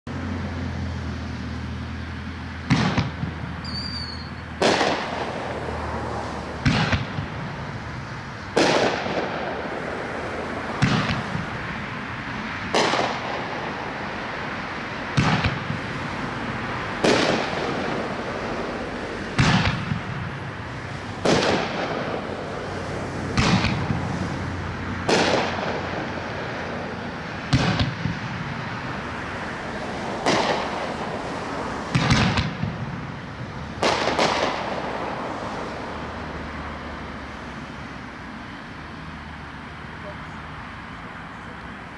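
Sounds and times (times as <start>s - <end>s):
crackling hiss: 0.2s - 41.9s
firework reports: 2.1s - 41.9s.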